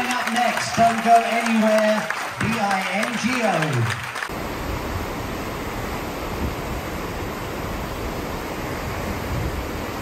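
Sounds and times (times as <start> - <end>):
churning water of ship's wake: 0.0 - 10.0.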